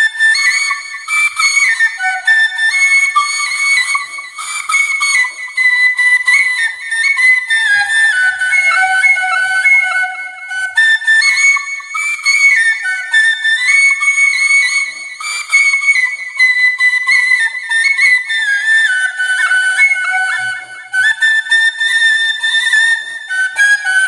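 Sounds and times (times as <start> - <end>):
bamboo flute slow melody: 0.0 - 24.0.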